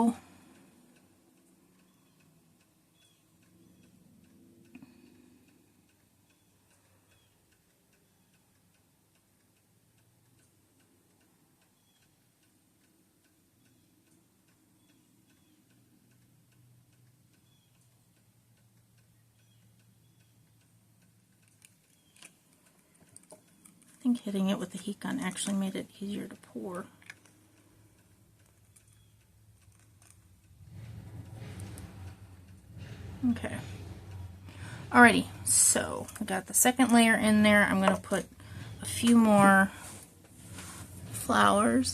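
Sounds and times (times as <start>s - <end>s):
faint regular ticking: 0.0s - 41.9s.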